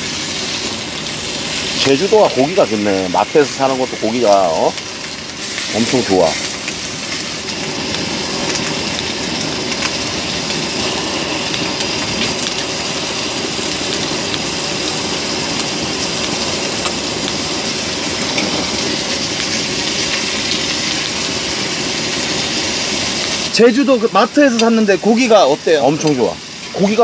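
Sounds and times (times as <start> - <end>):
pork sizzling on griddle: 0.0 - 27.0.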